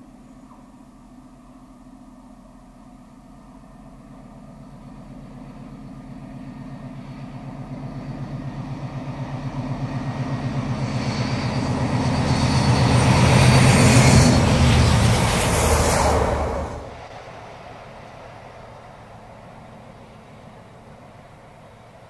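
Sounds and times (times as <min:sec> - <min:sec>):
wheels rumbling on rail: 0:00.0 - 0:22.0
diesel locomotive engine beat: 0:02.6 - 0:22.0.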